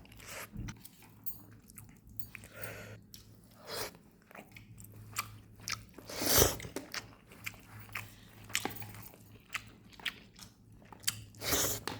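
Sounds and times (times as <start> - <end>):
person chewing and biting food: 0.0 - 11.9.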